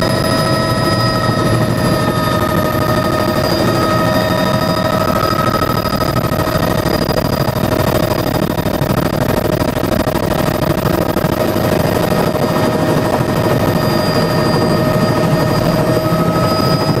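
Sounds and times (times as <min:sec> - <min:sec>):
high whine: 0:00.0 - 0:08.2, 0:08.8 - 0:17.0
helicopter rotor chop: 0:00.0 - 0:17.0.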